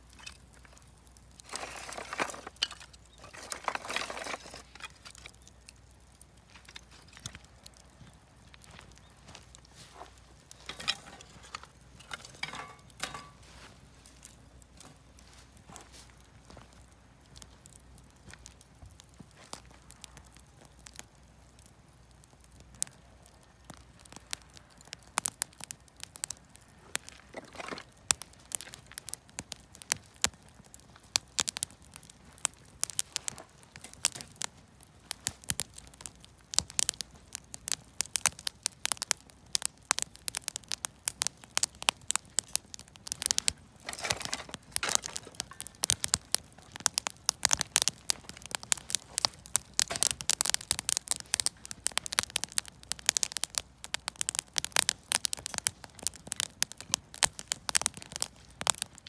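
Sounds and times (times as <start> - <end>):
campfire crackling: 0.0 - 59.0
fire pops and snaps: 0.0 - 59.0.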